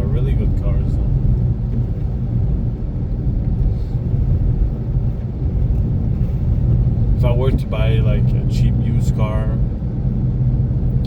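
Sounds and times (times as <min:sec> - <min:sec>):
road and drivetrain rumble: 0:00.0 - 0:11.0.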